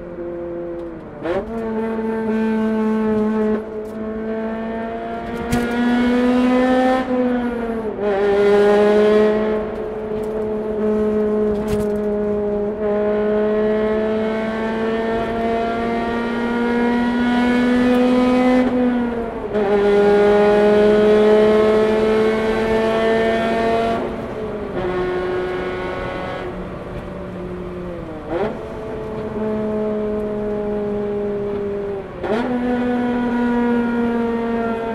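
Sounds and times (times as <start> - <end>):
car engine accelerating through gears: 0.0 - 34.9.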